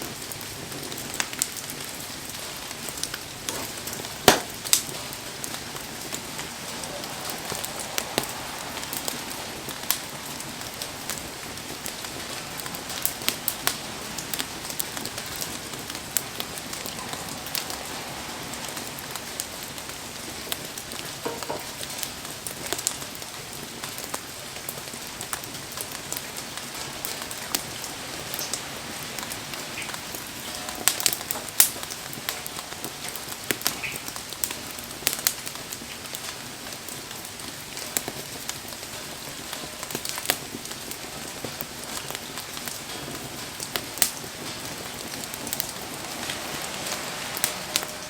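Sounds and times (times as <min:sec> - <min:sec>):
campfire crackling and popping: 0:00.0 - 0:48.0
steady rain: 0:00.0 - 0:48.0.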